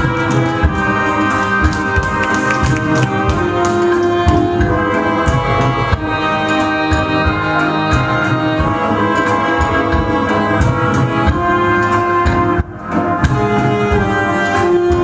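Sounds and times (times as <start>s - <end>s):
rumba dance music: 0.0s - 15.0s.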